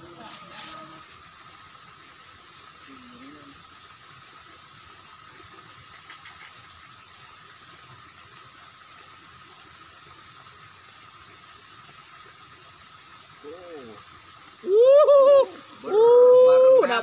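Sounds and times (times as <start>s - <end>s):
constant hiss: 0.0s - 17.0s
water running in channel: 0.0s - 17.0s.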